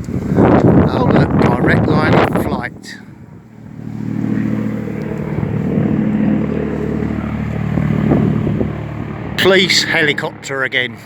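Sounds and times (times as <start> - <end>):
helicopter drone: 0.0 - 11.0.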